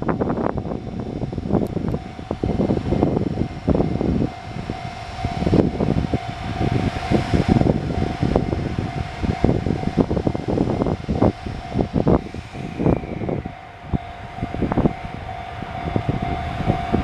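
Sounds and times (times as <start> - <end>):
loud uneven rumbling: 0.0 - 17.0
level crossing warning bell: 1.7 - 17.0.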